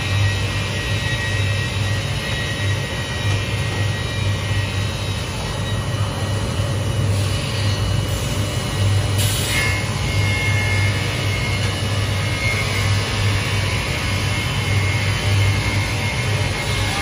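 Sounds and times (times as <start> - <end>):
conveyor machinery droning: 0.0 - 17.0
steady high whine: 0.0 - 17.0.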